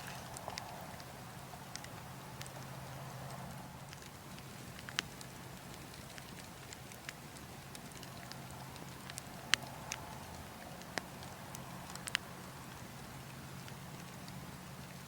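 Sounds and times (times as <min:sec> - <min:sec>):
burning logs crackling: 0:00.0 - 0:15.0.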